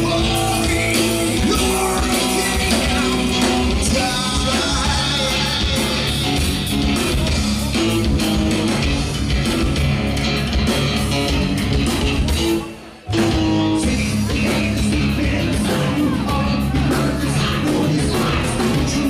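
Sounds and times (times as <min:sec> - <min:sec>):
rock band on acoustic guitars: 0:00.0 - 0:19.0.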